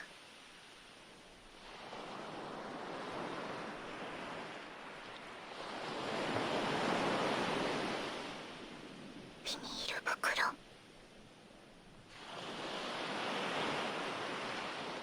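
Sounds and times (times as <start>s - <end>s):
ocean waves washing onto shore: 0.0s - 9.4s, 12.0s - 15.0s.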